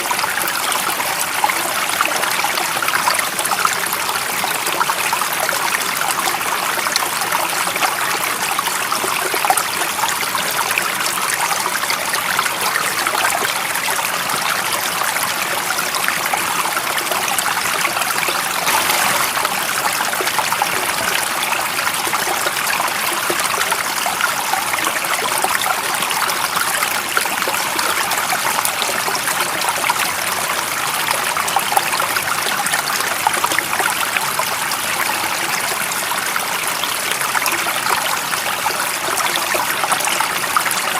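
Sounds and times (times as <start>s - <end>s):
stream of water running: 0.0s - 40.9s.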